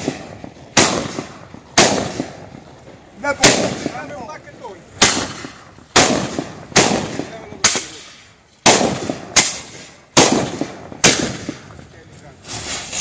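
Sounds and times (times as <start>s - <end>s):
gunpowder mortars banging: 0.0s - 13.0s.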